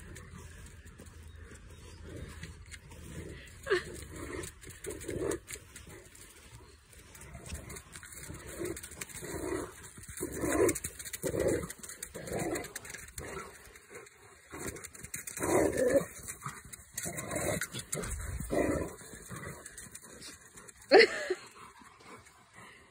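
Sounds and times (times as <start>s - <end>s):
dog growling: 1.9s - 6.2s, 7.1s - 22.8s.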